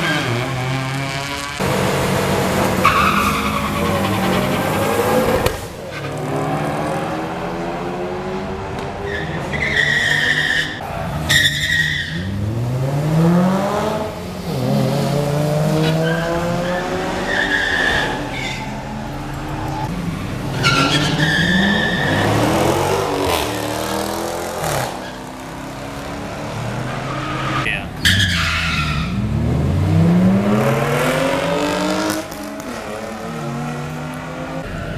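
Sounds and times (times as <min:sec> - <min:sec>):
cars revving and accelerating: 0:00.0 - 0:34.9.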